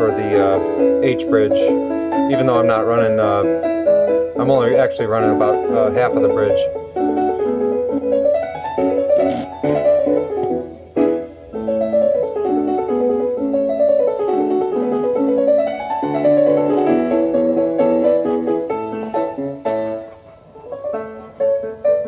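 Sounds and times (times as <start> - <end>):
keyboard music through small speaker: 0.0 - 22.0.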